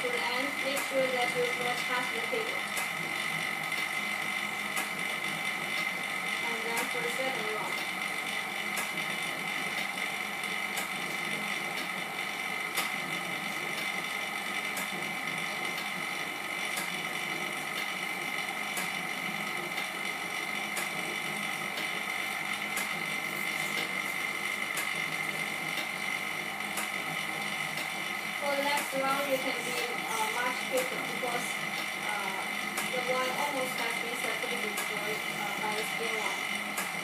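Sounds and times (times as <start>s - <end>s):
machine high whine: 0.0s - 37.0s.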